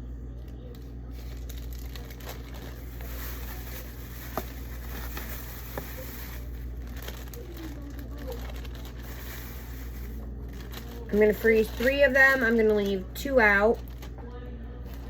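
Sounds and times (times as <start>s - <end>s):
steady low hum: 0.0s - 15.0s
plastic bags rustling: 0.7s - 14.2s.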